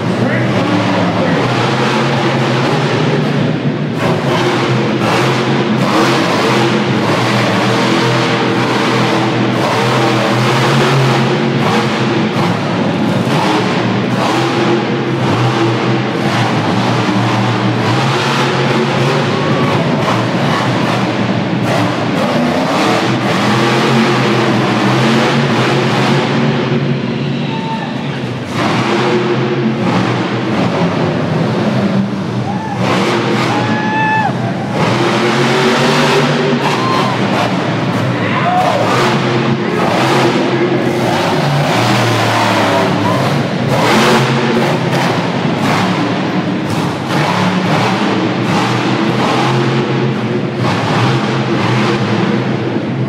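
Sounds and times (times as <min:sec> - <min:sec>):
monster truck engine revving: 0:00.0 - 0:53.0.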